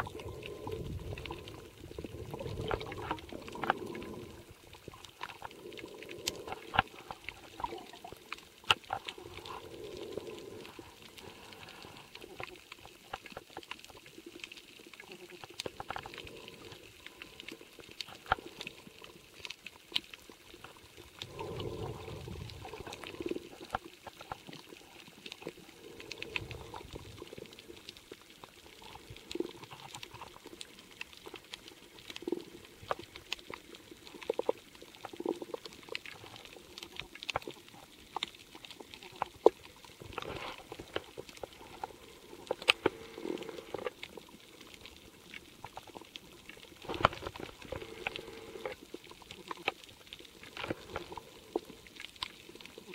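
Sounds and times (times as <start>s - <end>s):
faint water wash: 0.0s - 52.9s
sharp clicks and crackles underwater: 0.0s - 52.9s.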